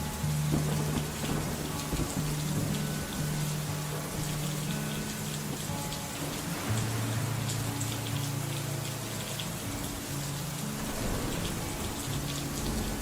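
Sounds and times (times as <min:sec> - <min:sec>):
rain pattering: 0:00.0 - 0:13.0
slow instrumental music low chords: 0:00.0 - 0:13.0.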